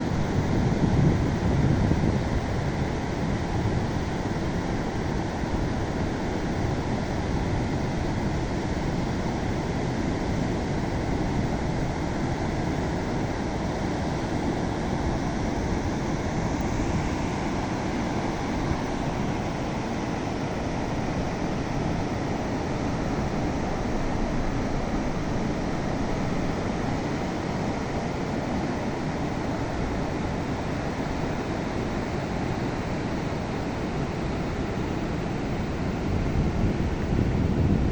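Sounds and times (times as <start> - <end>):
ocean waves on beach: 0.0 - 37.9.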